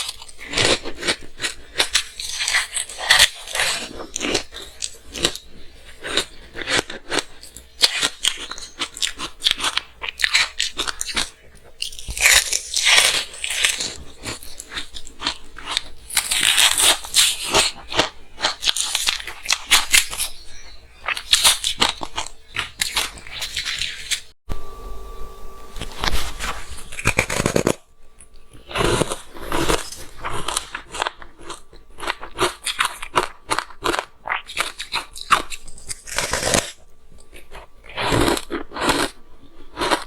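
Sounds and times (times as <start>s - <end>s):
chewing crunchy frozen ice: 0.0s - 24.3s, 25.8s - 40.0s.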